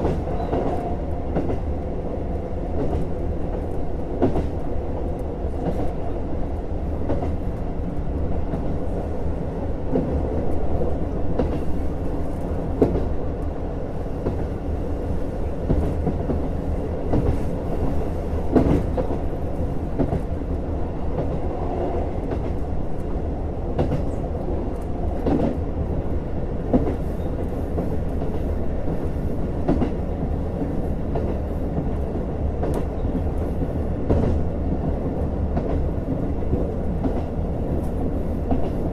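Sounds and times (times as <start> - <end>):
diesel railcar engine and wheels hum: 0.0 - 38.9.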